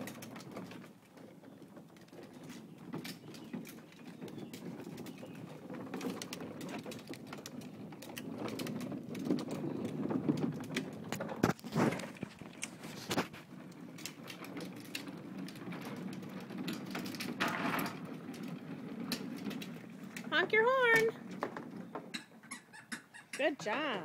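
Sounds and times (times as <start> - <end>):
plastic wheels rolling on concrete: 0.0 - 24.0.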